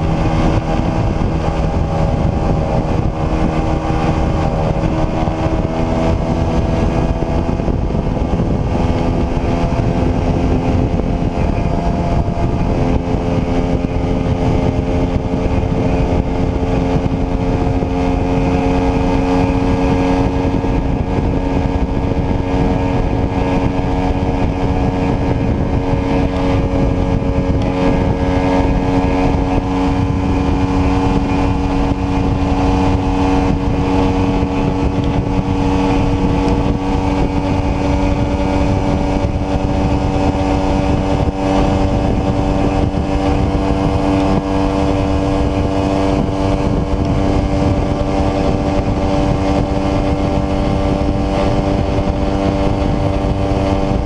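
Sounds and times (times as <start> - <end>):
motorcycle engine cruising: 0.0 - 54.0
road noise: 0.0 - 54.0
wind rush: 0.0 - 54.0.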